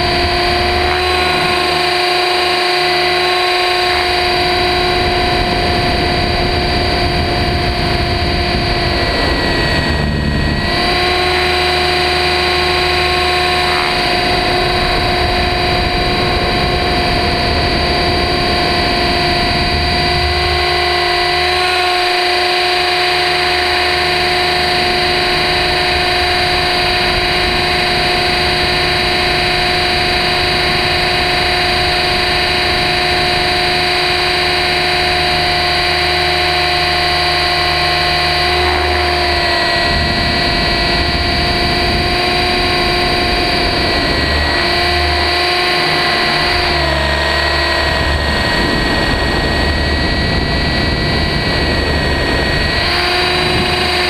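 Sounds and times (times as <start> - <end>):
rc helicopter motor and rotor whine: 0.0 - 54.0
rushing air noise: 0.0 - 54.0.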